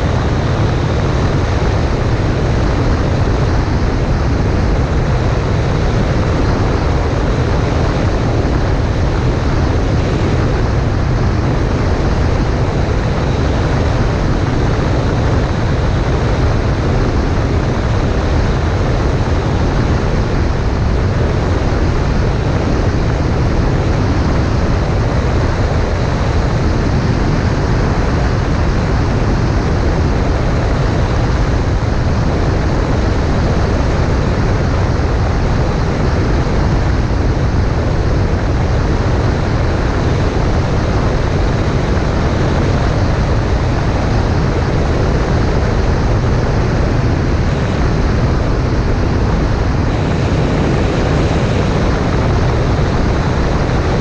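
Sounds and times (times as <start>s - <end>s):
airflow rushing: 0.0s - 54.0s
propeller engine running: 0.0s - 54.0s.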